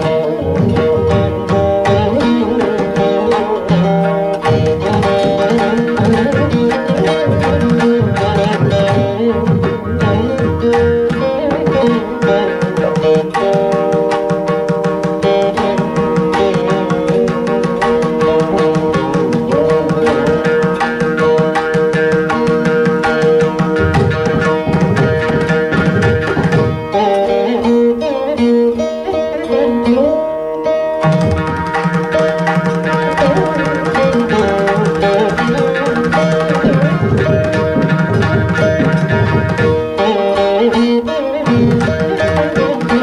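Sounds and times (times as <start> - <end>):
fast mridangam strokes: 0.0 - 43.0
veena melody with sliding notes: 0.0 - 43.0.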